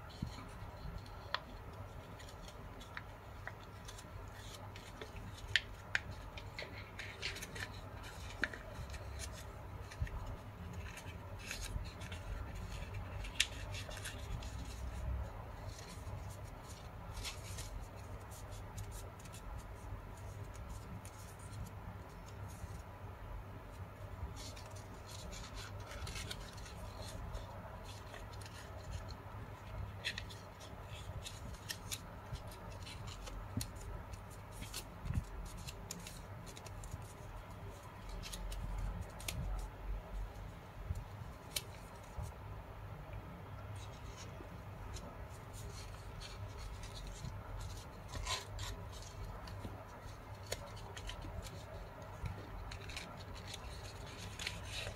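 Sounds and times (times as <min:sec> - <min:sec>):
faint low hum: 0:00.0 - 0:54.9
paper rustling and crinkling: 0:00.1 - 0:22.9, 0:24.0 - 0:40.2, 0:40.9 - 0:42.4, 0:43.8 - 0:54.9.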